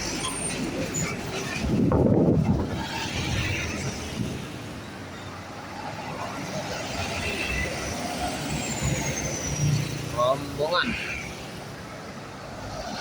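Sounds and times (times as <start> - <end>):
diesel bus engines rumbling: 0.0 - 13.0.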